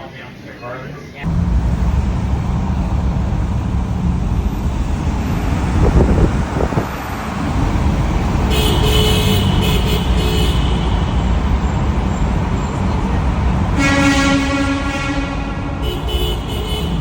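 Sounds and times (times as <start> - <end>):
low rumble of road traffic: 1.2 - 17.0.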